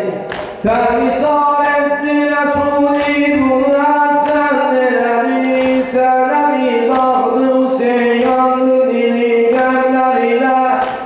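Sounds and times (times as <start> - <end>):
man singing unaccompanied lament: 0.0 - 11.0.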